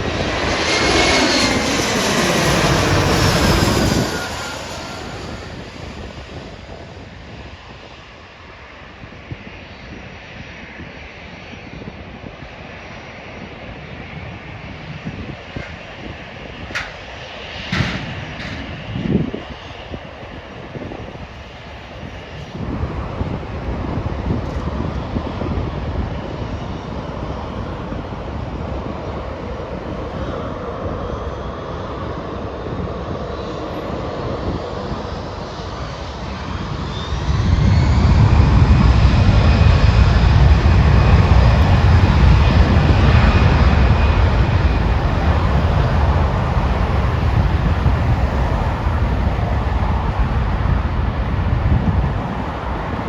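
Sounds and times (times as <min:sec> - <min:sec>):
jet engine roar: 0:00.0 - 0:53.0
jet engine whine: 0:00.0 - 0:53.0.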